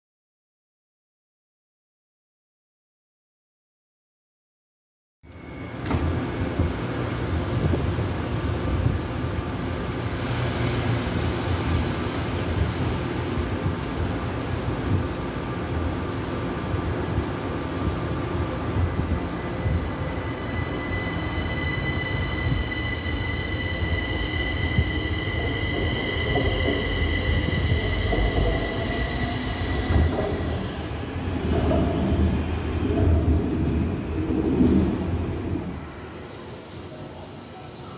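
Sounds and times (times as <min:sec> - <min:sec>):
train rumble: 0:05.6 - 0:37.9.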